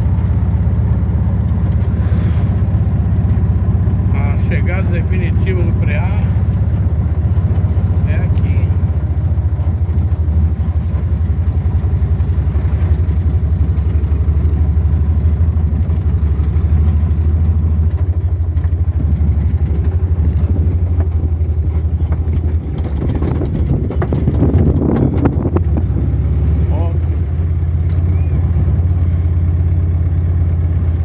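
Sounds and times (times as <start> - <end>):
rattles: 0.0 - 30.7
vehicle engine humming: 0.0 - 31.0.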